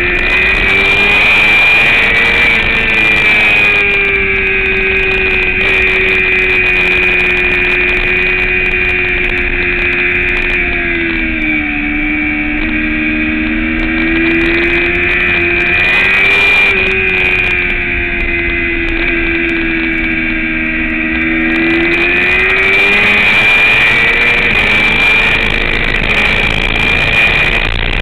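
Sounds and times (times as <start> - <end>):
motorcycle engine running hard: 0.0 - 28.0.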